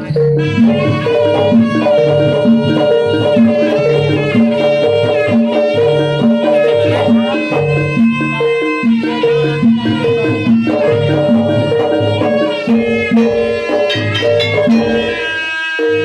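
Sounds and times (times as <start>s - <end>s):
high held note: 0.0s - 16.0s
low drum beats: 0.0s - 16.0s
repeating pitched notes: 0.0s - 16.0s.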